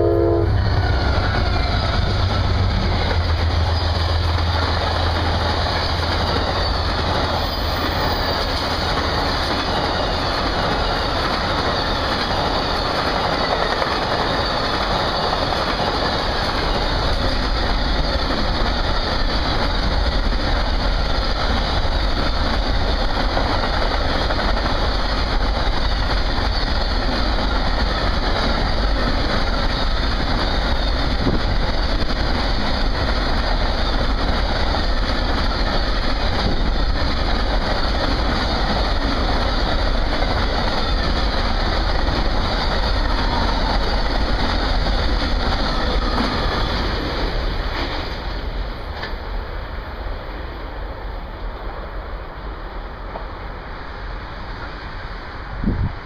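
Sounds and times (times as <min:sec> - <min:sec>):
steel train wheels on rails: 0:00.0 - 0:56.0.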